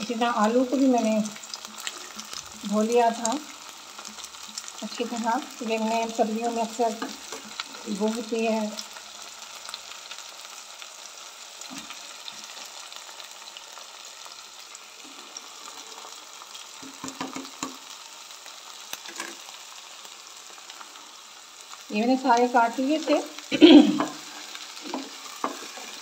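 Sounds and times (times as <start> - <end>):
pods sizzling in hot oil: 0.0 - 26.0.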